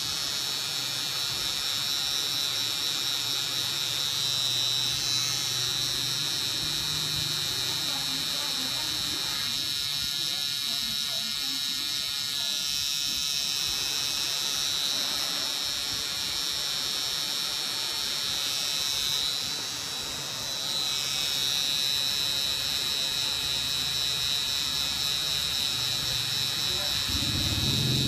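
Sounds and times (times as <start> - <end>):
tattoo pen buzzing whine: 0.0 - 28.0.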